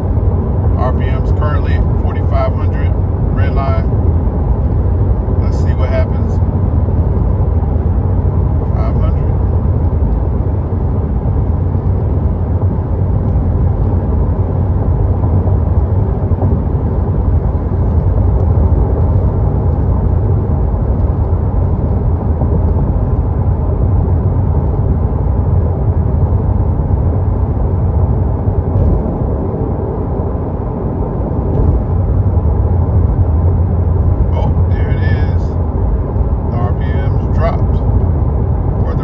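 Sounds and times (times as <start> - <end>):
car engine drone: 0.0 - 39.0.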